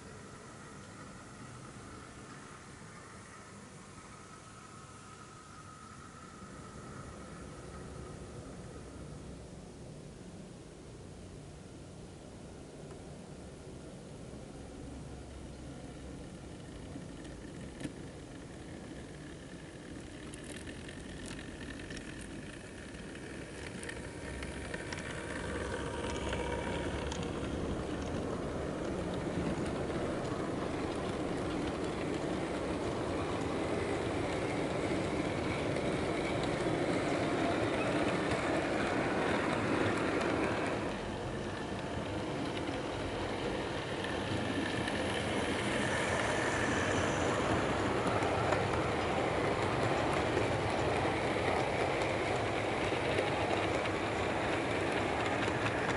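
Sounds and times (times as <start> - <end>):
model train rumbling on track: 0.0 - 55.9.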